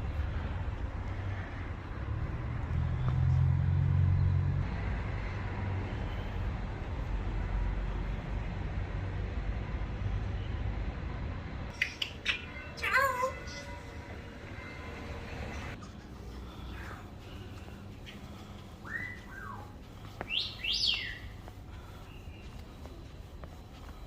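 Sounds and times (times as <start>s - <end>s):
vehicle engine rumble: 0.0s - 12.0s, 13.7s - 24.0s
road traffic: 0.0s - 24.0s.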